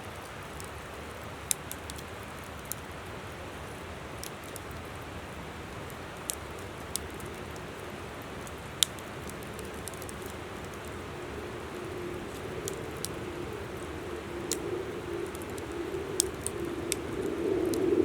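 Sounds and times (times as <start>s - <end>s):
campfire crackling and popping: 0.1s - 18.0s
river flowing: 0.1s - 18.0s.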